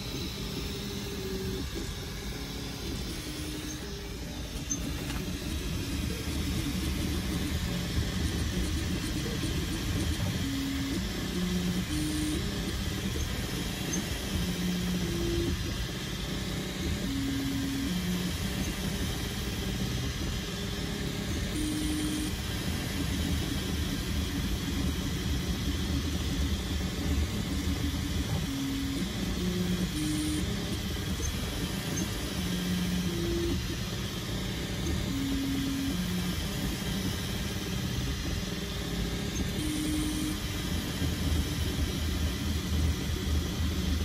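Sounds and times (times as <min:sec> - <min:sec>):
cooling fans whirring: 0:00.0 - 0:44.0
stepper motor tones: 0:00.0 - 0:44.0.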